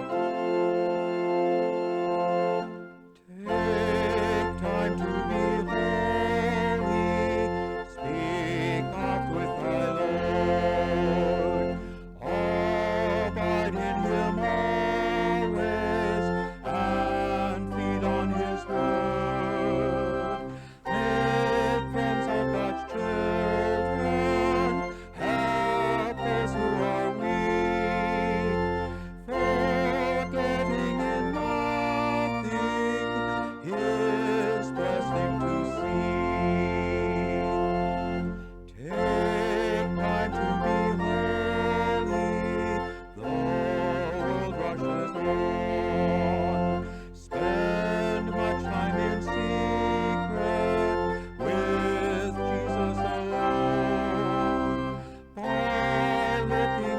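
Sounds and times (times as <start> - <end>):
organ music: 0.0 - 56.9.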